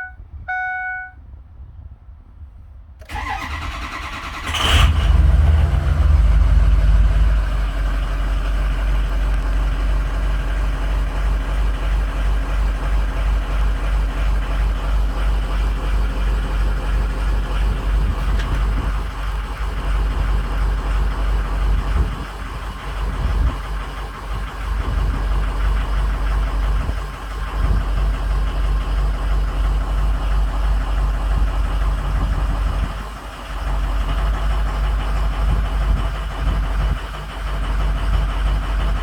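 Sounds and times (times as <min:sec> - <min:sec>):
diesel engine cranking: 0:03.0 - 0:39.0
diesel engine pulsing idle: 0:03.0 - 0:39.0.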